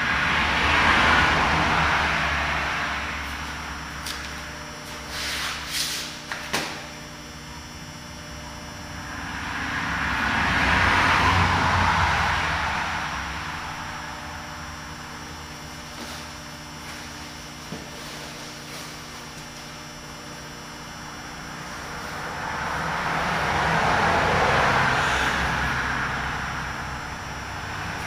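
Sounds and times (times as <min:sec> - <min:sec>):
background hum: 0:00.0 - 0:28.0.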